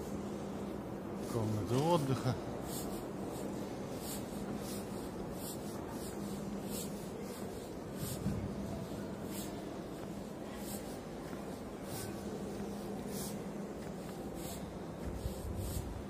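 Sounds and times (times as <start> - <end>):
low hum of a large hall: 0.0 - 16.0
footsteps: 2.8 - 16.0.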